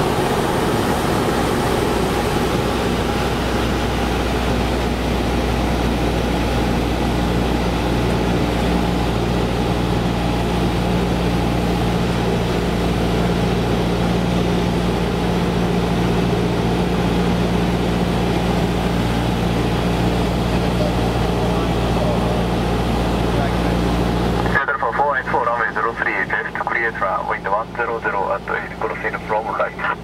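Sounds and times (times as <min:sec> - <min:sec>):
airplane engine droning in cabin: 0:00.0 - 0:30.0.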